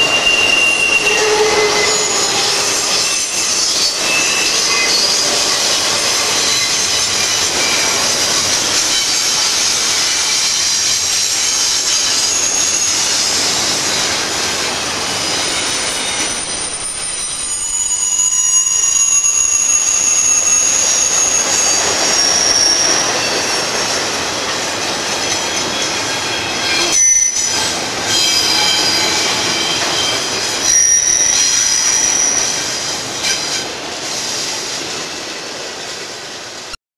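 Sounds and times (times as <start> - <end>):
train wheels squealing: 0.0 - 34.9
freight train rumbling: 0.0 - 36.8.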